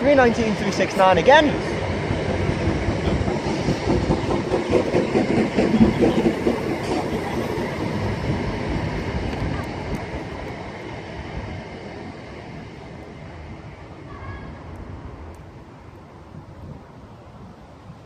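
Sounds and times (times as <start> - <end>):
electric train slowing to a stop: 0.6 - 15.6.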